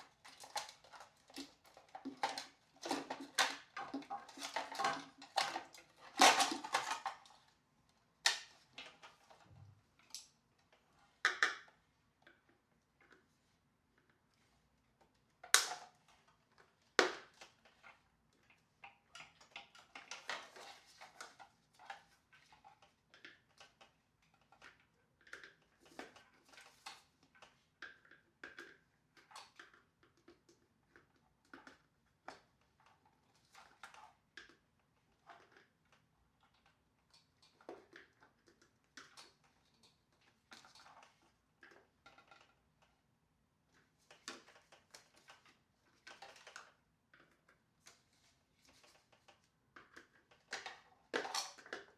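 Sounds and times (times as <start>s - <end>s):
plastic parts clicking and knocking: 0.0s - 7.6s, 8.2s - 13.3s, 15.1s - 51.9s.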